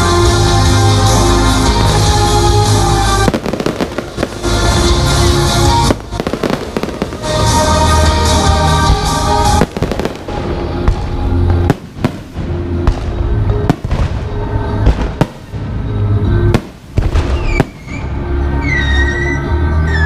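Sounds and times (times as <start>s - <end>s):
music: 0.0s - 20.0s
fireworks banging: 1.7s - 18.2s.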